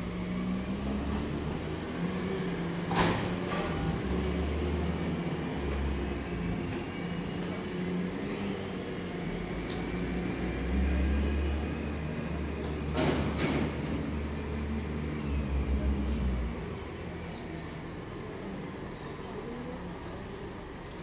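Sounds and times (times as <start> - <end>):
diesel machinery rumbling: 0.0 - 20.8.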